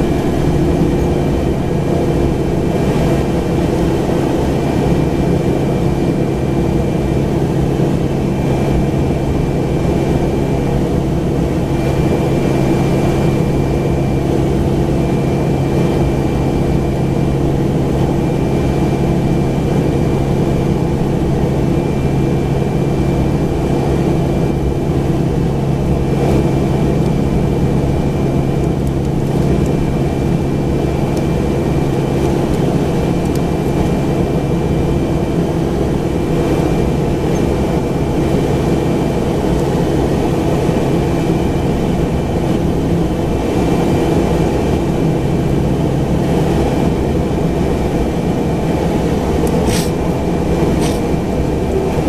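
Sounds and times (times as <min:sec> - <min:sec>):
high whine: 0:00.0 - 0:52.0
turboprop engine idling: 0:00.0 - 0:52.0.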